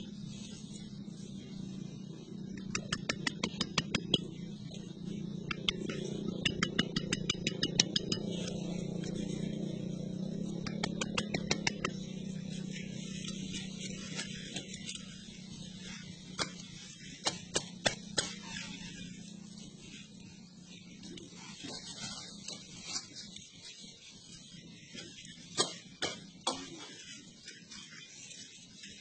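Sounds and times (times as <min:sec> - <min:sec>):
hand brushing soil and leaves: 0:00.0 - 0:02.5, 0:08.2 - 0:29.0
steady low hum: 0:00.0 - 0:29.0.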